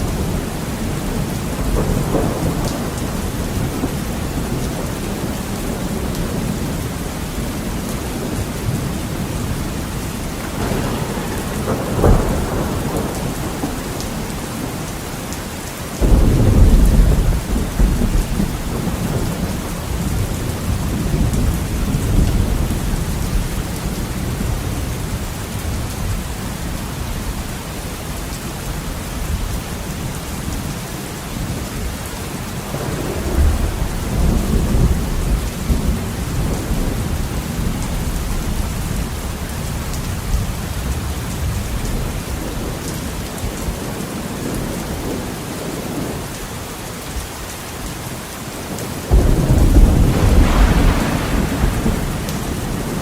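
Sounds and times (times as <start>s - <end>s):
thunder rumbling: 0.0s - 15.3s, 16.0s - 27.6s, 31.4s - 46.4s, 48.8s - 53.0s
heavy rain on a window: 0.0s - 53.0s.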